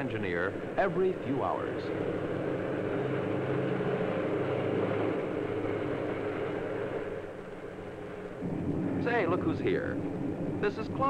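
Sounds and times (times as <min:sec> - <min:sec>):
locomotive engine droning: 0:00.0 - 0:11.0.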